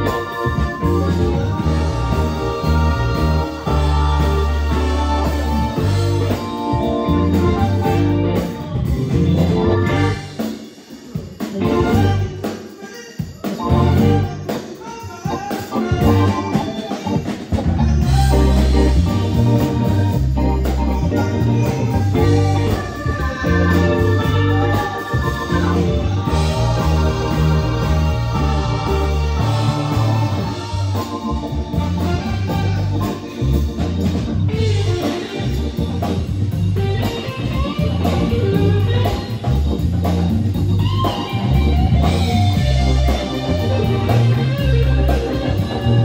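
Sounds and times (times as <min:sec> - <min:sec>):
horns: 0:00.0 - 0:10.7, 0:11.5 - 0:39.5
congas: 0:00.0 - 0:46.0
drum kit: 0:00.0 - 0:46.0
electric guitar: 0:00.0 - 0:46.0
organ-toned keyboard: 0:00.0 - 0:46.0.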